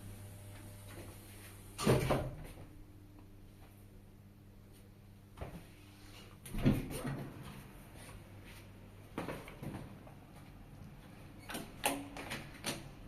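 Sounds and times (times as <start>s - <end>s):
low elevator hum: 0.0s - 11.5s.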